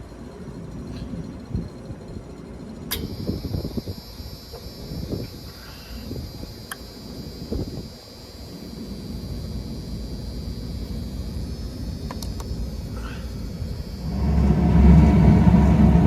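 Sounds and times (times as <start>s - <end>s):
low machine rumble: 0.0s - 16.0s.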